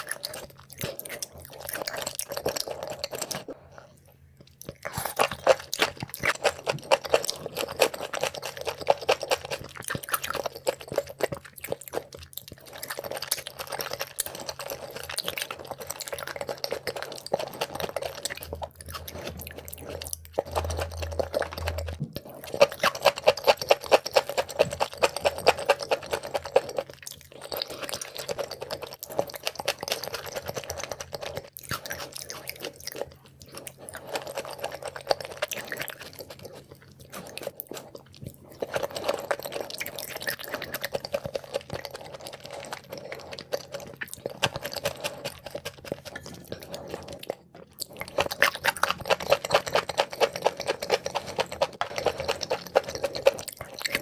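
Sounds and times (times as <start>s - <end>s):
wet chewing mouth clicks: 0.0s - 54.0s.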